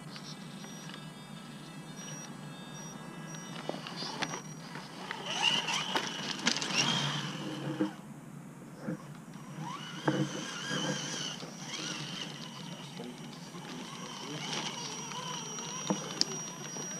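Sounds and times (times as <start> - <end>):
electric motor and gears whining: 0.0 - 8.1, 8.7 - 16.9.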